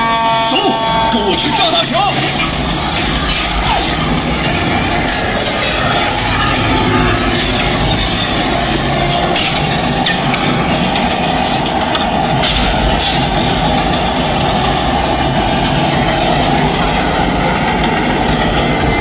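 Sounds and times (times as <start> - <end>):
freight trains rumbling on rails: 0.0 - 19.0.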